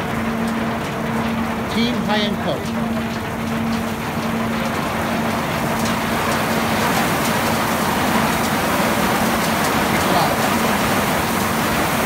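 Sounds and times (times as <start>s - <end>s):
machine hum: 0.0s - 12.0s
olives pouring into hopper: 0.0s - 12.0s.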